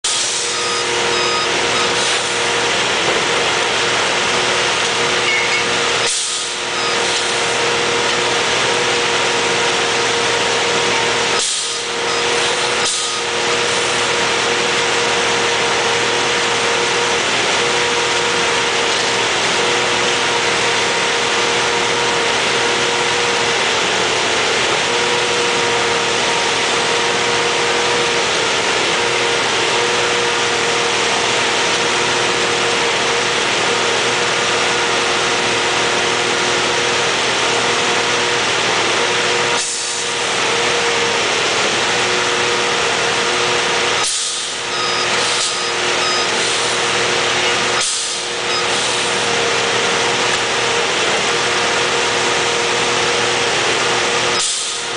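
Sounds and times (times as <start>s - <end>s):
heavy machine engine and hydraulics: 0.0s - 54.9s.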